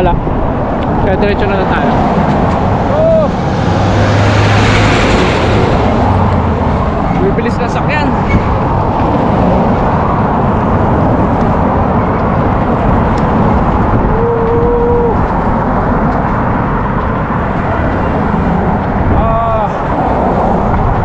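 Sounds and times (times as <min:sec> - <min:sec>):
cars passing close by: 0:00.0 - 0:21.0
road traffic rushing: 0:00.0 - 0:21.0
wind noise: 0:00.0 - 0:21.0.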